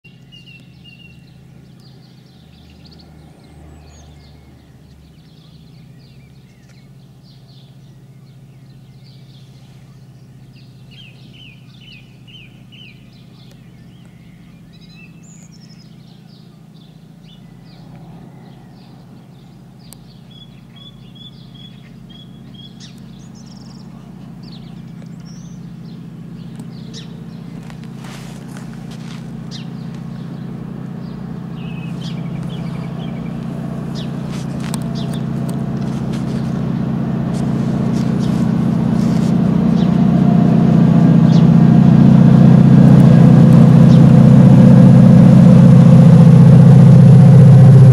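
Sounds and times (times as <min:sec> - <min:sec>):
small birds chirping: 0:00.0 - 0:42.0, 0:42.6 - 0:44.3
locomotive engine drone: 0:00.0 - 0:47.9.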